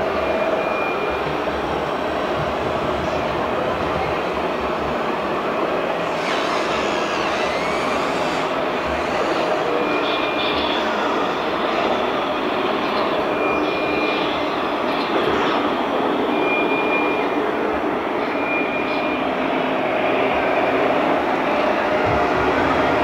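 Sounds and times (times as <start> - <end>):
busy hall din: 0.0 - 23.0.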